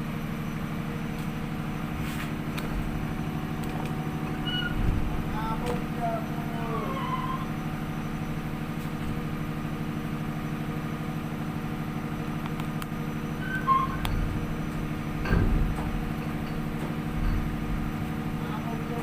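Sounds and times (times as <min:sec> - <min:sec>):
ship engine humming: 0:00.0 - 0:19.0.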